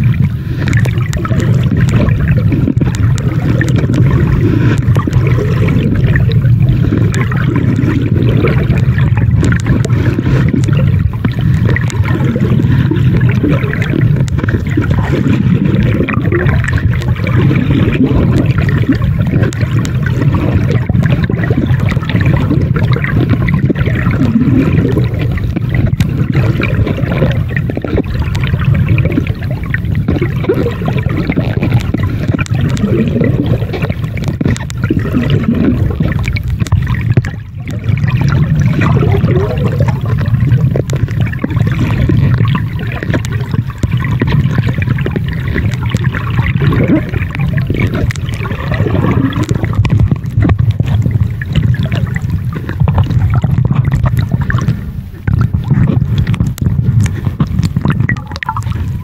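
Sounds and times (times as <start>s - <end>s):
muffled underwater rush: 0.0s - 59.0s.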